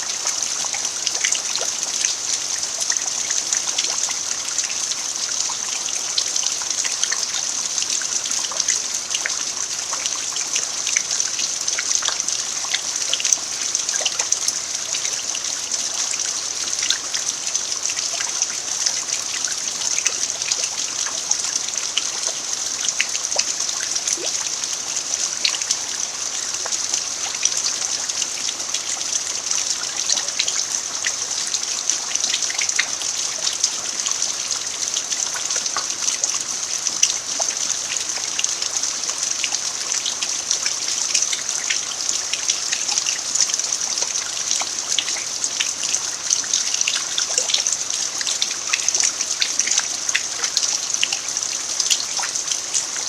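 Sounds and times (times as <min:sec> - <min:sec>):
rain falling on dirt: 0:00.0 - 0:53.0.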